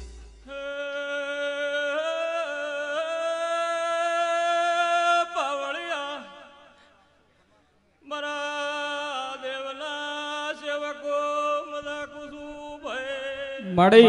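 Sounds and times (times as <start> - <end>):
man singing devotional chant: 0.5 - 7.0, 8.0 - 14.0.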